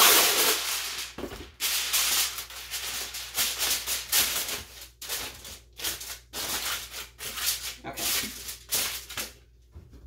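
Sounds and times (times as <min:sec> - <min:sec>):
aluminum foil crinkling: 0:00.0 - 0:09.4.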